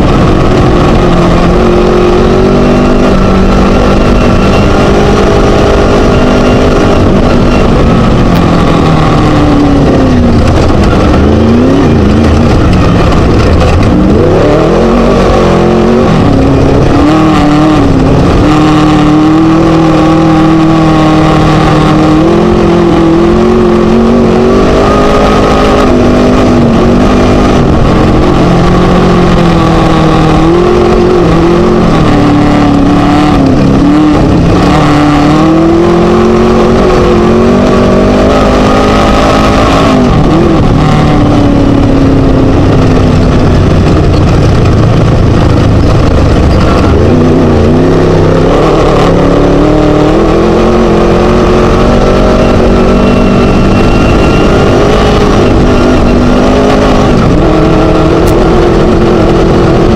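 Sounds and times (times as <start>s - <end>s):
race buggy engine revving: 0.0s - 59.9s
rattling and road noise: 0.0s - 59.9s.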